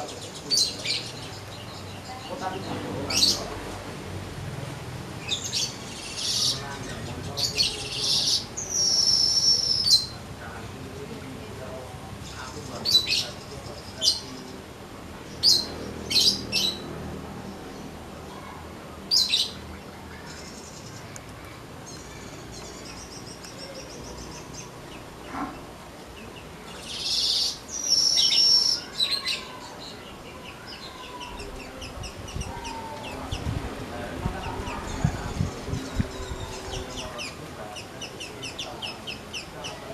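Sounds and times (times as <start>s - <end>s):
weaver bird singing: 0.0s - 3.5s, 5.2s - 10.2s, 12.2s - 16.9s, 19.1s - 21.2s, 21.8s - 33.5s, 34.4s - 39.9s.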